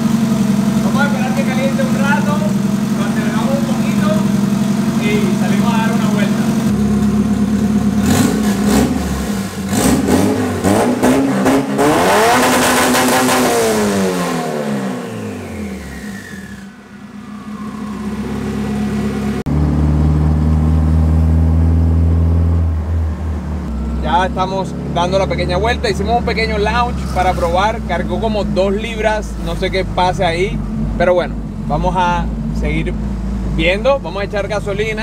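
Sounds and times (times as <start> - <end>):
turbocharged engine revving: 0.0 - 35.0.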